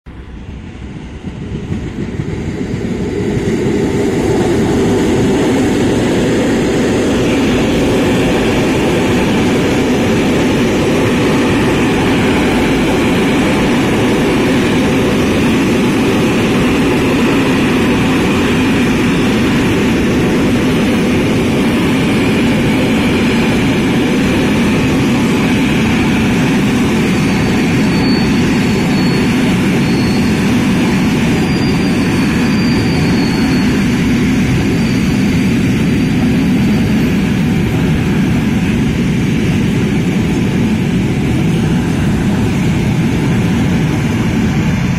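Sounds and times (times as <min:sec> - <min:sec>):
train wheels rumbling on rails: 0:00.0 - 0:44.9
faint high whine: 0:00.1 - 0:44.9.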